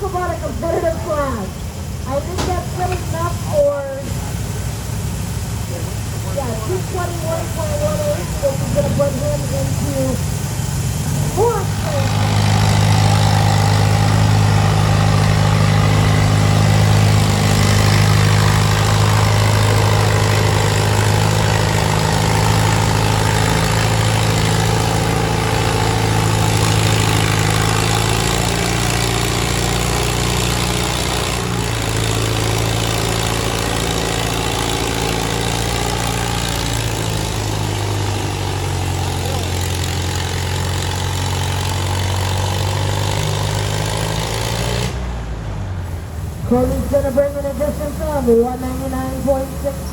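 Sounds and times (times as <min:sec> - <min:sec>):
tractor engine running steadily: 0:00.0 - 0:49.9.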